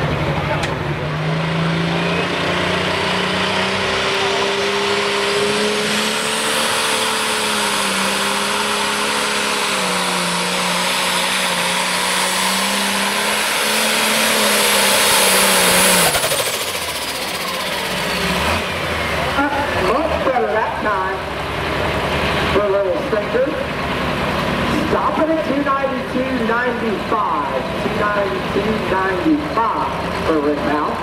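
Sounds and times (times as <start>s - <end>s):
diesel engine at full throttle: 0.0s - 31.0s.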